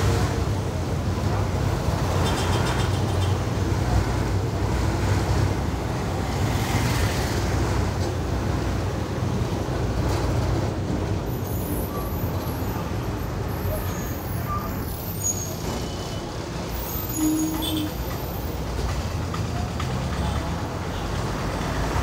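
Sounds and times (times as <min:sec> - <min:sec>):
bus engine rumbling: 0:00.0 - 0:22.0
road and tyre noise: 0:00.0 - 0:22.0.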